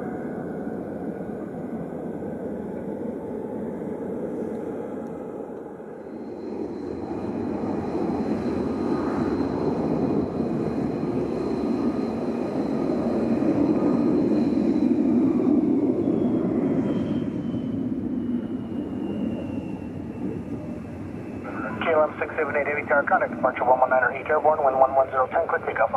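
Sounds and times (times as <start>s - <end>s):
jet airliner passing: 0.0s - 25.9s.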